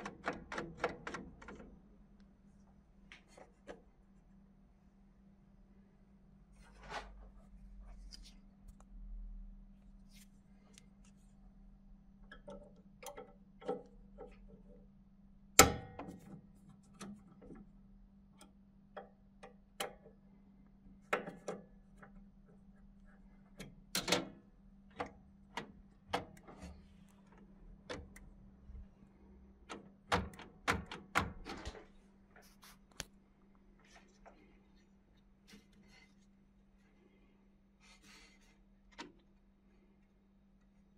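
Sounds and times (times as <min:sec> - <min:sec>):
faint steady hum: 0:00.8 - 0:40.9.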